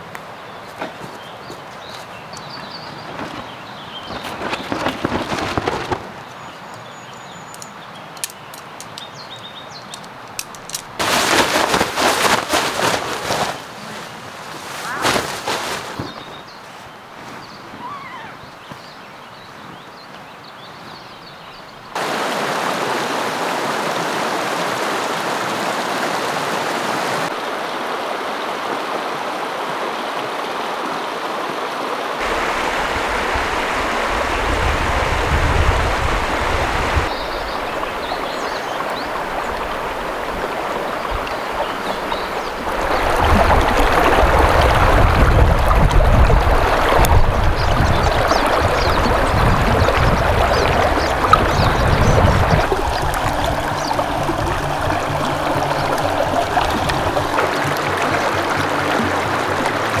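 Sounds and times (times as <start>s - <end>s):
creek flowing over stones: 0.0s - 16.5s, 21.9s - 60.0s.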